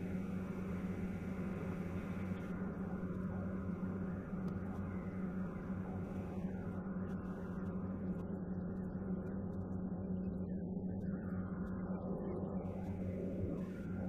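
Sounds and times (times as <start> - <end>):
aircraft engine and airflow drone: 0.0 - 14.0
low steady hum: 0.0 - 14.0.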